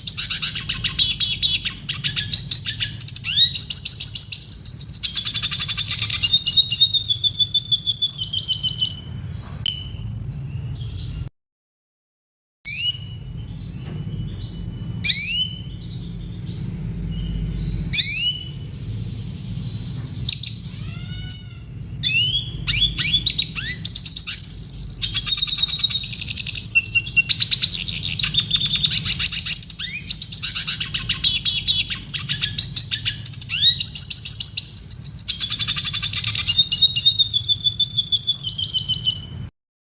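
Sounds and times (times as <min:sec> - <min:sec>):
bird singing twittering trills: 0:00.0 - 0:11.3, 0:12.7 - 0:39.5.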